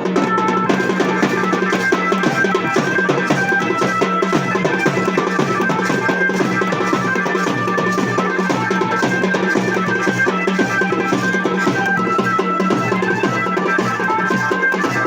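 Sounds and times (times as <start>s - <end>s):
fast driving drumming: 0.0s - 15.0s
held melody line: 0.0s - 15.0s.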